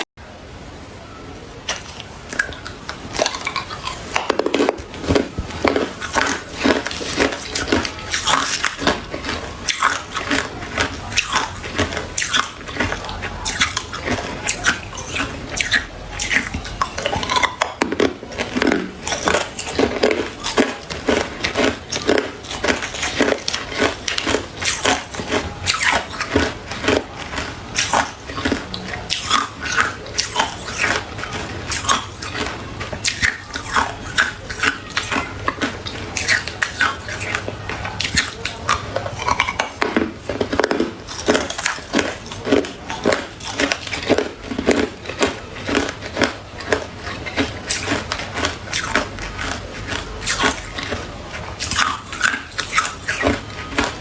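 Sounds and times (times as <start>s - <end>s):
ice being chewed: 1.7s - 54.0s.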